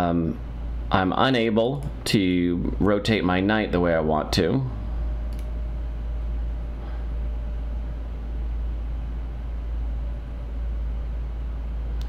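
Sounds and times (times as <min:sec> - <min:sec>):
faint electrical hum: 0:00.0 - 0:12.0
steady low rumble: 0:00.0 - 0:12.0.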